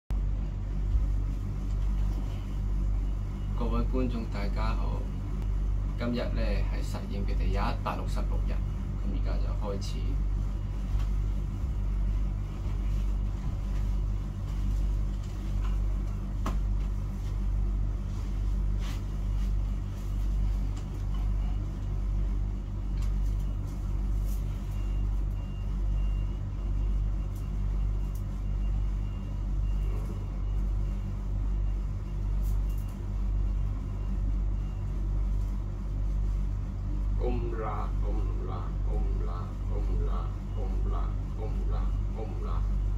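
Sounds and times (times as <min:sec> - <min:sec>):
pulsing low hum: 0:00.1 - 0:42.9.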